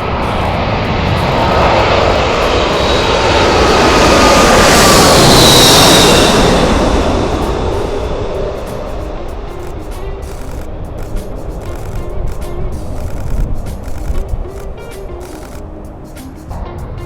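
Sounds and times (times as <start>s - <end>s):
jet engine high whine: 0.0s - 17.0s
jet plane roaring overhead: 0.0s - 17.0s.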